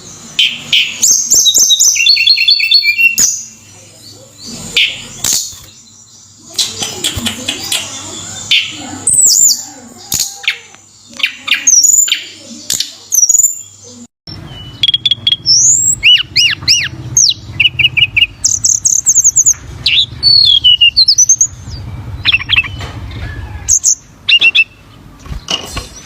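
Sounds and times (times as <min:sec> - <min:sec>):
songbird whistling song: 0:00.0 - 0:03.6, 0:04.5 - 0:26.0.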